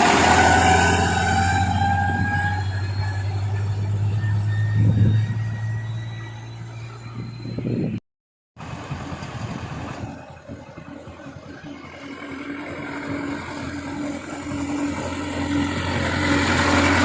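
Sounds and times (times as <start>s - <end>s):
tractor engine running: 0.0s - 8.0s, 8.6s - 17.0s.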